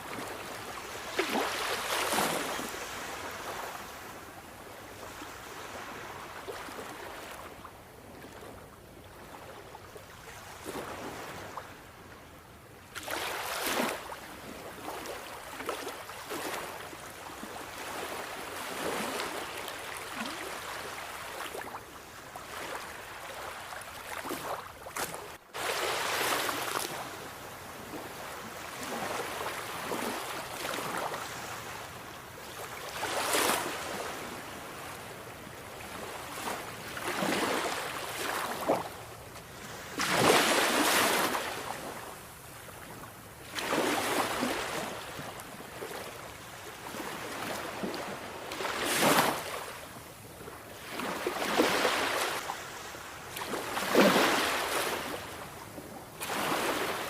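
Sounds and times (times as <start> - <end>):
sea waves breaking on shore: 0.0 - 12.0, 12.9 - 57.0.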